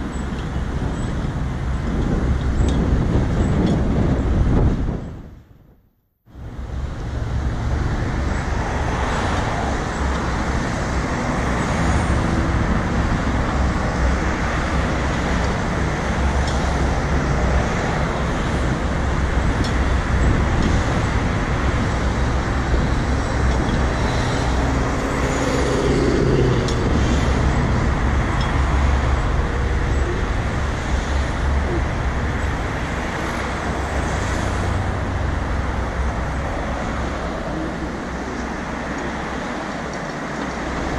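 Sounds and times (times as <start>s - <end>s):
road traffic rumble: 0.0s - 40.9s.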